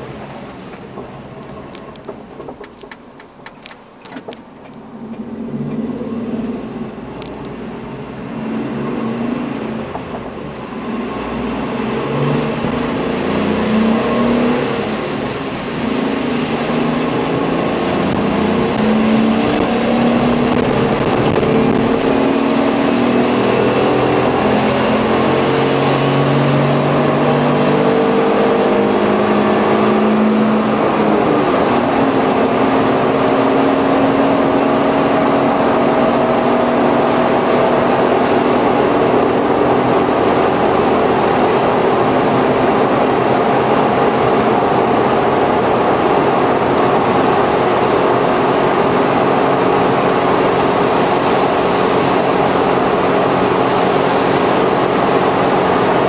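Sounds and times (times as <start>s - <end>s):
van engine accelerating: 0.0s - 56.0s.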